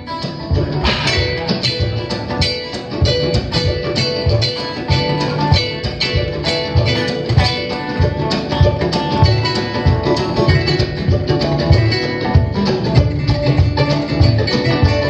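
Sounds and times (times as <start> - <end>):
plucked guitar and harp notes: 0.0 - 15.0.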